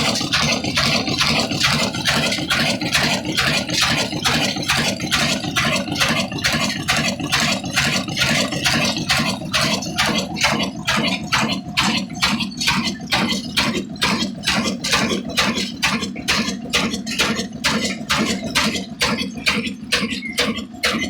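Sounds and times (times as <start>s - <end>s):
diesel engine knocking: 0.0s - 21.0s
flour mill rumble: 0.0s - 21.0s.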